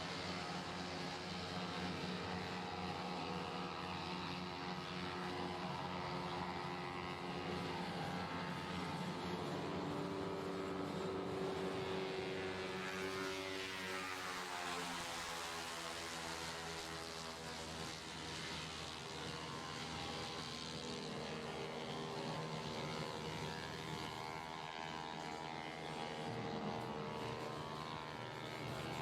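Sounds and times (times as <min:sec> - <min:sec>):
scooter engines racing: 0:00.1 - 0:29.0.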